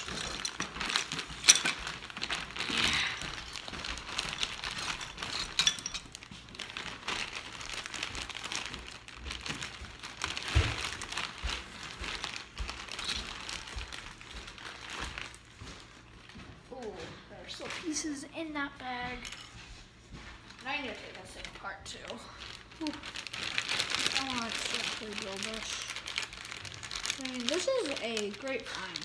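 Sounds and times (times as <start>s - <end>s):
plastic bag crinkling: 0.0s - 18.2s, 20.1s - 29.0s.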